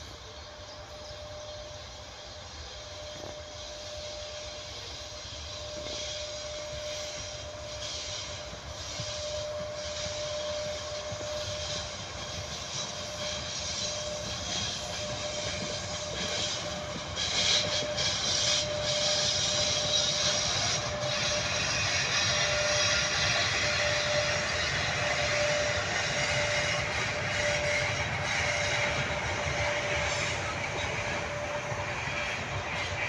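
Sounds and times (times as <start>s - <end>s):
thin steady whine: 0.0s - 33.0s
train coaches on rails: 0.0s - 33.0s.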